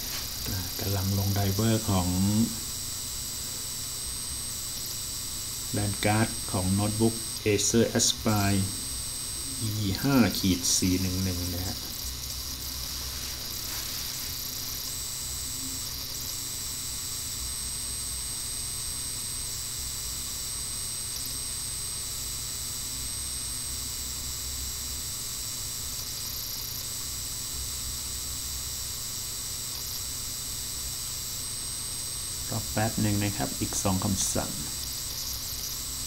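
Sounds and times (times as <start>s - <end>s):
steady background hiss: 0.0s - 17.6s, 23.7s - 36.0s
faint high-pitched whine: 0.0s - 36.0s.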